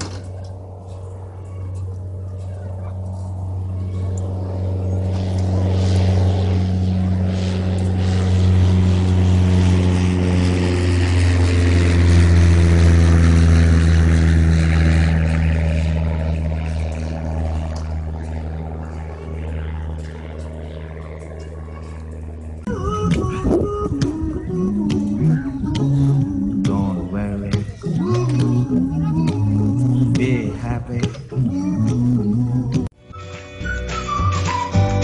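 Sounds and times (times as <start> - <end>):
propeller airplane passing overhead: 0.0 - 35.0.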